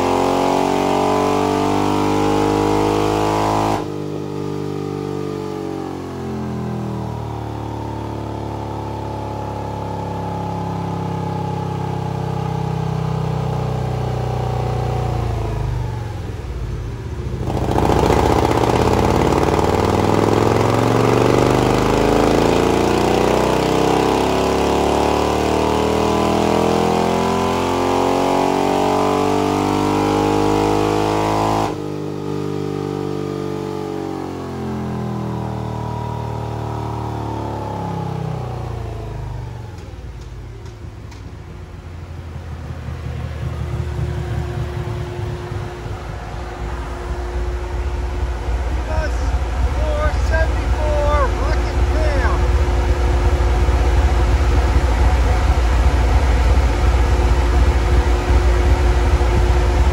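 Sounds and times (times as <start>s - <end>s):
motorcycle engine revving on a dyno: 0.0s - 59.9s.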